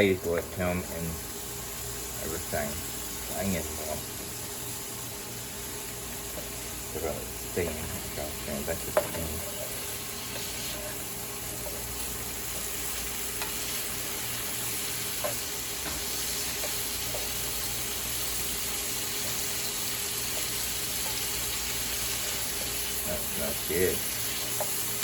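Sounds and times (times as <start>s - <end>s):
onions sizzling in a pan: 0.0s - 25.0s.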